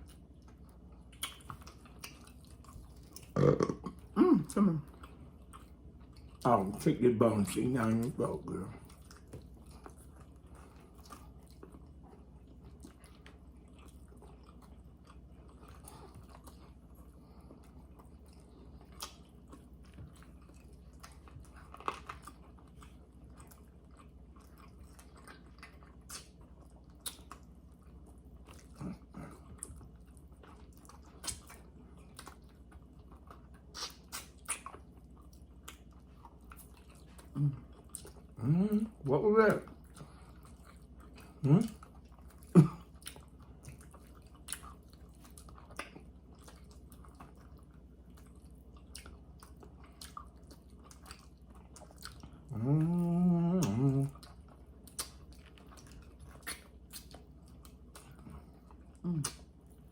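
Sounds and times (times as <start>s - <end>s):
chewing and biting ribs: 0.0s - 59.9s.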